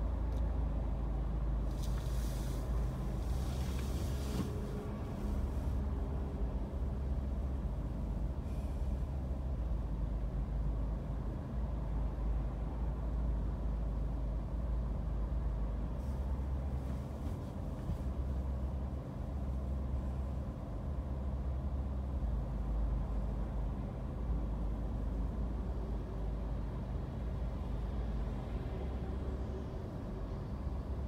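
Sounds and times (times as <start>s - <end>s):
passing traffic: 0.0s - 31.0s.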